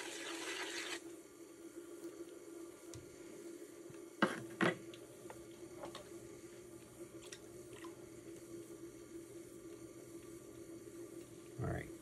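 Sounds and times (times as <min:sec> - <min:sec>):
pottery wheel humming: 0:00.0 - 0:12.0.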